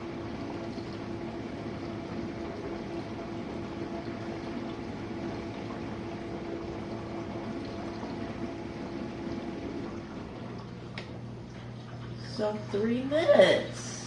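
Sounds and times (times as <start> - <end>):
dishwasher pump motor hum: 0.0 - 14.0
water sloshing in dishwasher: 0.0 - 14.0.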